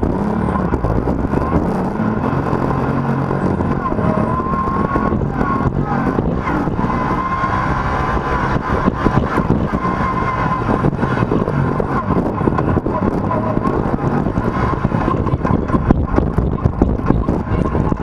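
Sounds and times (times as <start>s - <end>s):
engine running inside vehicle cab: 0.0s - 18.0s
knocks and rattles over bumps: 0.0s - 18.0s.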